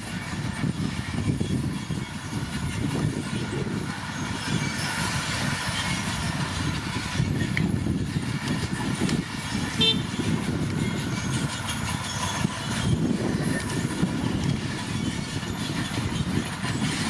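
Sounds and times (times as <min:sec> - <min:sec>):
diesel engine under load: 0:00.0 - 0:17.0
steel tracks clanking: 0:00.0 - 0:17.0.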